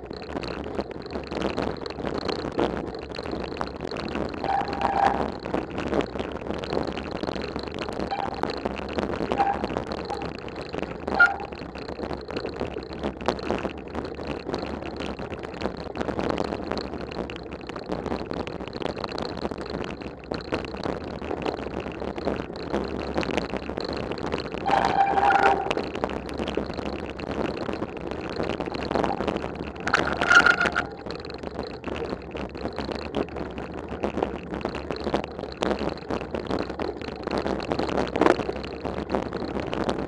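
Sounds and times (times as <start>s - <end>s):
bike rumbling and rattling: 0.0s - 40.0s.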